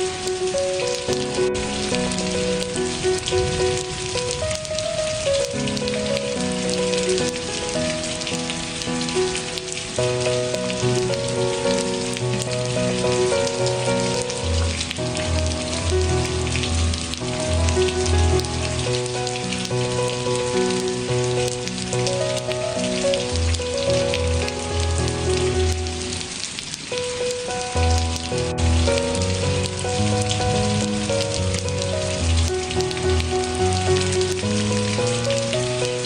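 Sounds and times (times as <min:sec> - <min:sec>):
rain pattering: 0:00.0 - 0:36.0
soft slow instrumental music: 0:00.0 - 0:36.0.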